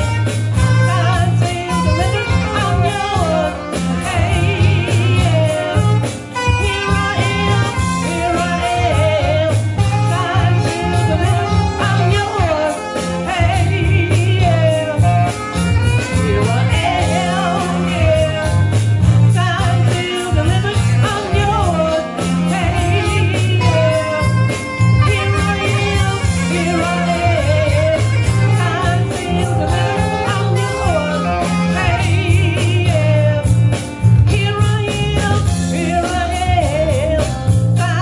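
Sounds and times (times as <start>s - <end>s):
soul backing music: 0.0s - 38.0s
woman singing into microphone: 0.0s - 38.0s.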